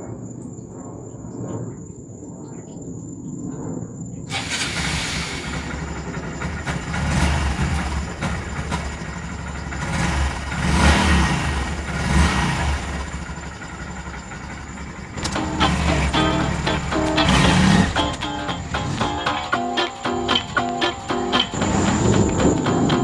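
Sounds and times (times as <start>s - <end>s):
motorcycle engine revving: 4.3s - 23.0s.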